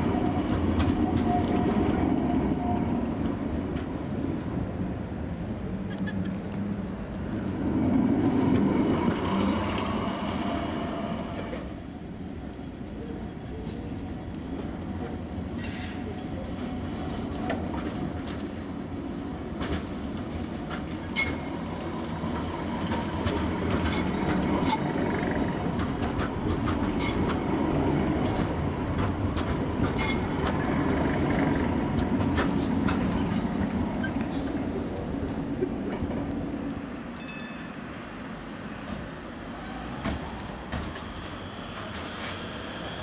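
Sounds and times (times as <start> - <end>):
tram running past: 0.0 - 43.0.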